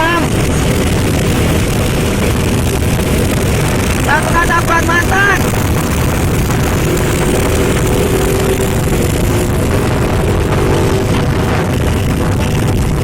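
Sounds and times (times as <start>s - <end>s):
trucks driving past: 0.0s - 13.0s.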